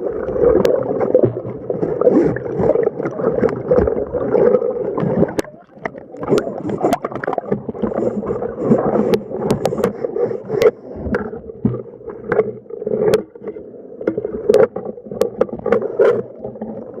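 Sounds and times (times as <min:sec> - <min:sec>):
choppy sea water sloshing: 0:00.0 - 0:17.0.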